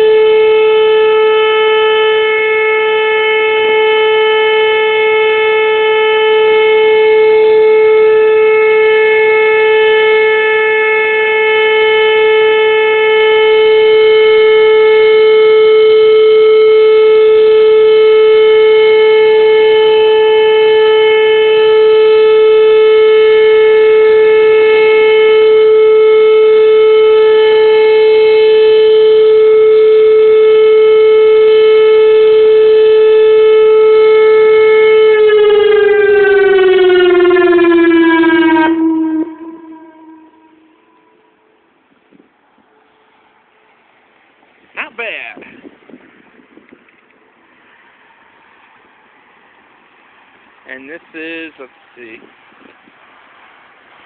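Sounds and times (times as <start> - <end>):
tornado siren steady tone: 0.0 - 54.0.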